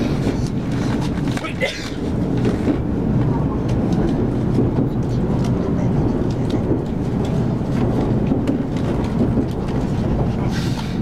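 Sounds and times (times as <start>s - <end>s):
train running low rumble: 0.0s - 11.0s.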